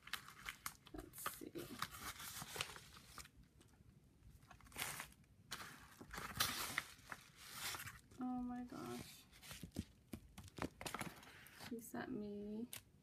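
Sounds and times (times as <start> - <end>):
paper rustling and crinkling: 0.0 - 3.4, 4.5 - 11.8.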